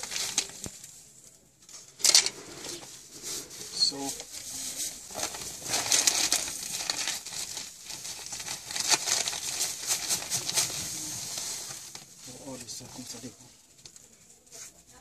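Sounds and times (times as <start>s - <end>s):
sack rustling: 0.0s - 0.8s, 1.8s - 13.3s.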